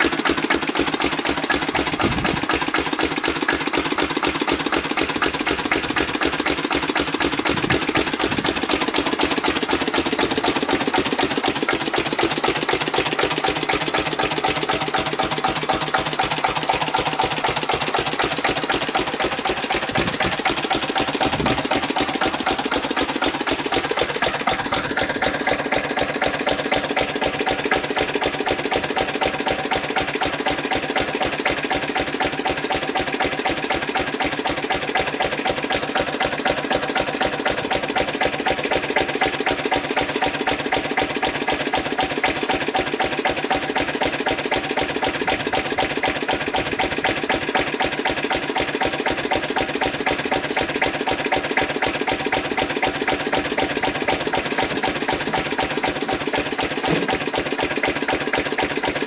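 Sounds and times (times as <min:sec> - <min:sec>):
diesel engine rhythmic clatter: 0:00.0 - 0:59.0.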